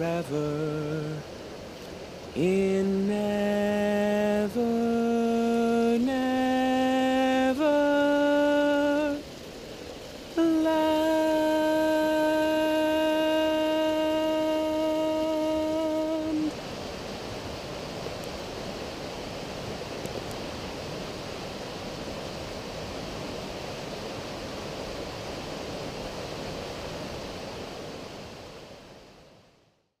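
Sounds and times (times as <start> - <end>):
stream water rushing: 0.0 - 29.7.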